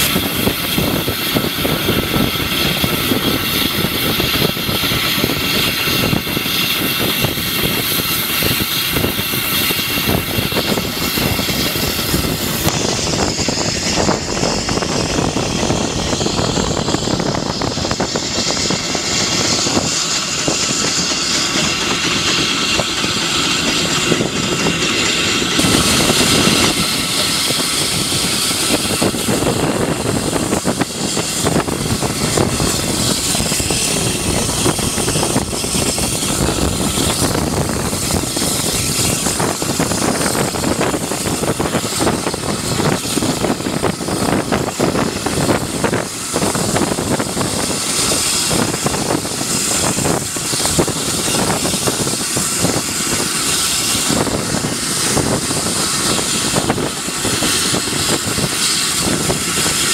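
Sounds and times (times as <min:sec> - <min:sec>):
locomotive wheels rumbling on track: 0:00.0 - 0:59.9
wind on microphone: 0:00.0 - 0:59.9.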